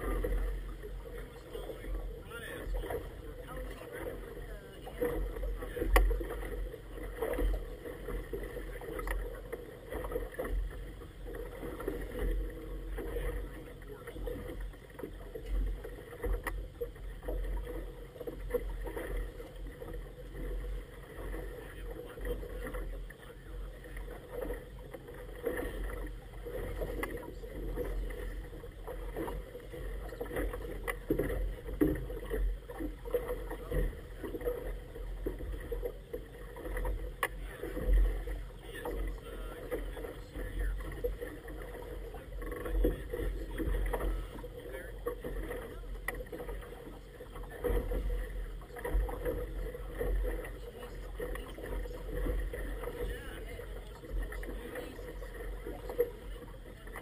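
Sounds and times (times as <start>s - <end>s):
water slapping against boat hull: 0.0s - 57.0s.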